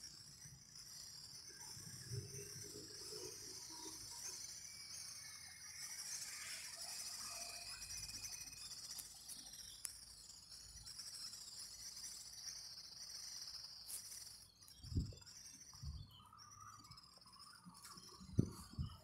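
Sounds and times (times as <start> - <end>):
insect chorus buzzing: 0.0 - 19.0.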